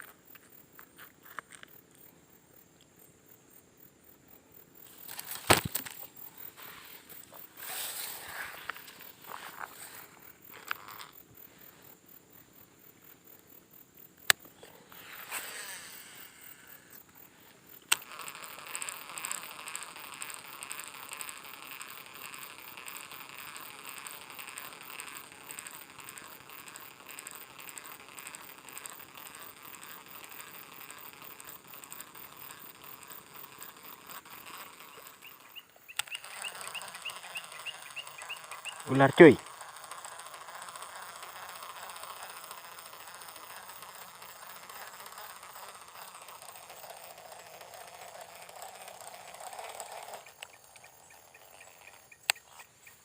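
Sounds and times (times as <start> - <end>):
reel clicks: 4.8 - 12.0, 14.1 - 53.0
fishing reel whirring: 4.8 - 53.0.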